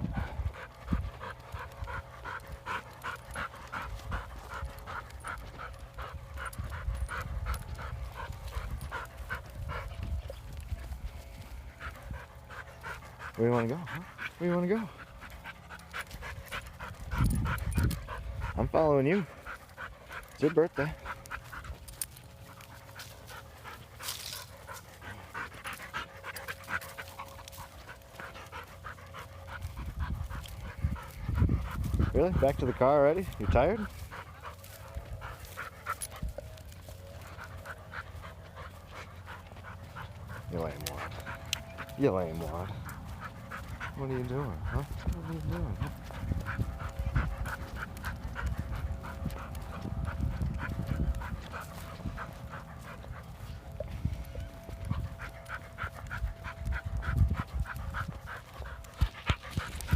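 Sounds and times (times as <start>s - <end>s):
dog panting heavily: 0.0s - 59.9s.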